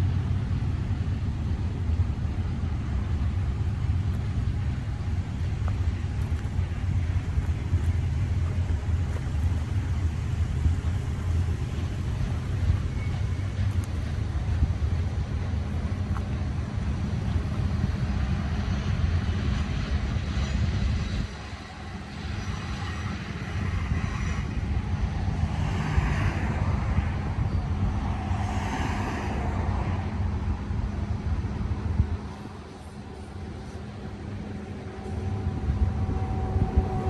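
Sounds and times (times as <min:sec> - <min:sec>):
freight train rumble: 0:00.0 - 0:37.0
locomotive engine drone: 0:00.0 - 0:37.0
rattle and hiss of train cars: 0:00.0 - 0:37.0.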